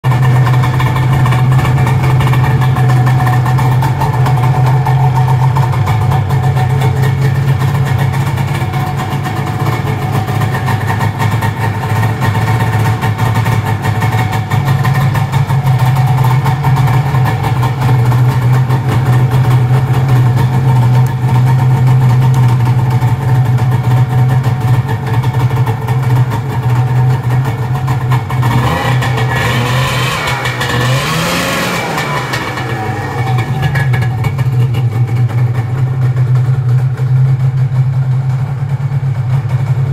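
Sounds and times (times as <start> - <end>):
snowmobile engine idling: 0.0 - 39.9.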